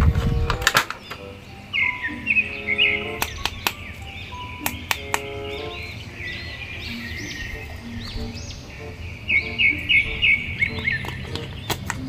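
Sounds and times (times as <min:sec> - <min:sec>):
birds chirping: 0:00.0 - 0:12.0
light background music: 0:00.0 - 0:12.0.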